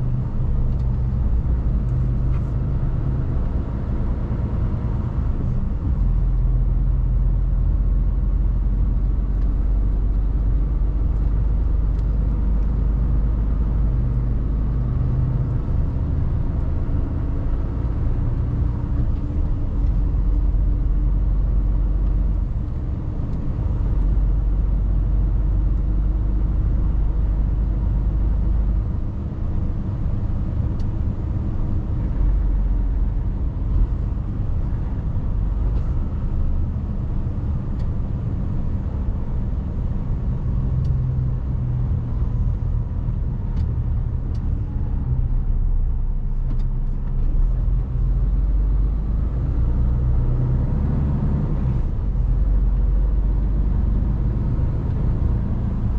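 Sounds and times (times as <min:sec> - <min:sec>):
truck diesel engine driving: 0:00.0 - 0:55.9.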